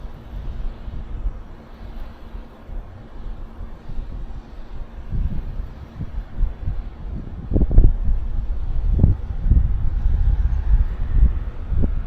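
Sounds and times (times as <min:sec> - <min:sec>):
faint steady hiss: 0:00.0 - 0:12.0
wind buffeting microphone: 0:00.0 - 0:12.0.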